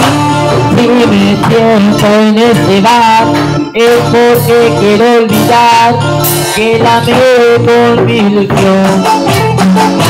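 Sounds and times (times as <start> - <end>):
loud amplified band music: 0.0 - 10.0
man singing into a microphone: 0.0 - 10.0.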